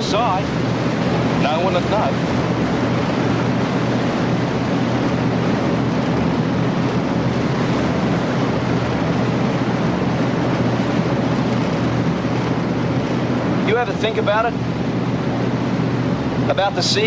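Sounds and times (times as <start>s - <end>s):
boat engines droning: 0.0s - 17.0s
water wash: 0.0s - 17.0s.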